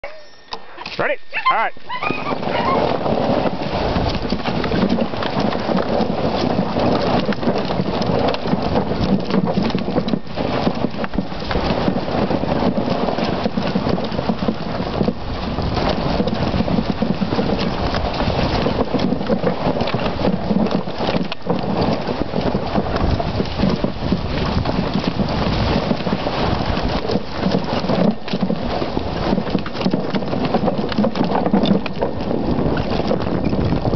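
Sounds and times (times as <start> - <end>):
atv rattling over rocky trail: 2.2 - 33.9.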